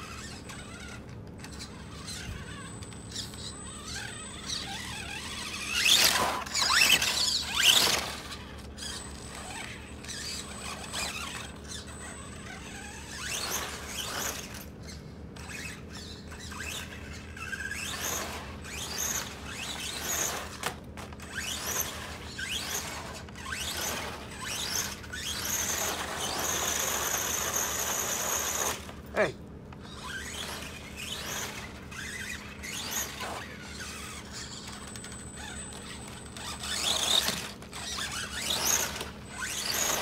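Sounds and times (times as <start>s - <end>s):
electric motor whining: 0.0s - 40.0s.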